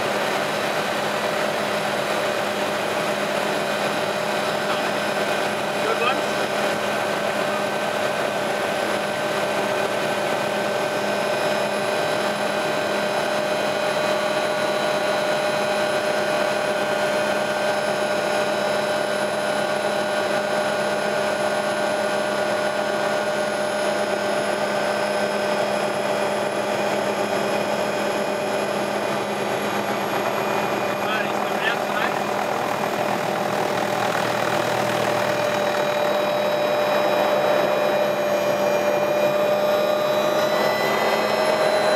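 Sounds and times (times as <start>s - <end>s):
helicopter turbine and rotor: 0.0s - 41.9s.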